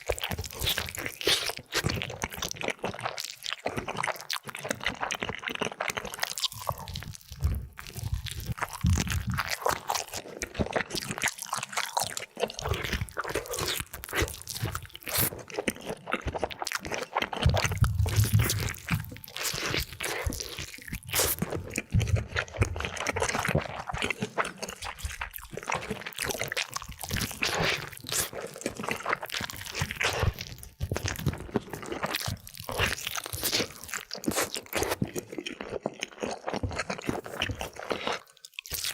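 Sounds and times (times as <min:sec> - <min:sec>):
crunchy chewing of crispy food: 0:00.0 - 0:38.9.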